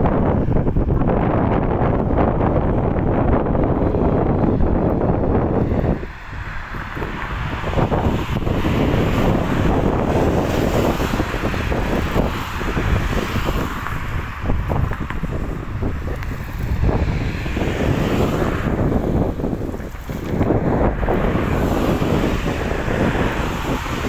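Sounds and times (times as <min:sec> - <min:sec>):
road traffic passing: 0:00.0 - 0:24.0
wind buffeting microphone: 0:00.0 - 0:24.0.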